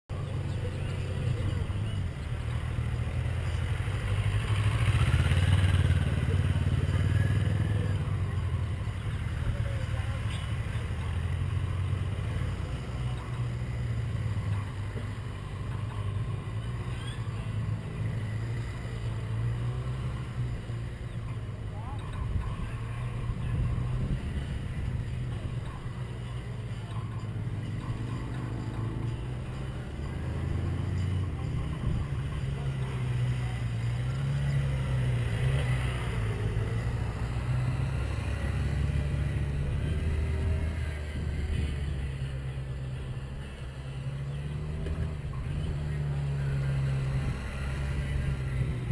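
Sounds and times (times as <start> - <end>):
distant motorcycle riding: 0.1 - 48.9
motorcycle engine running: 0.1 - 48.9.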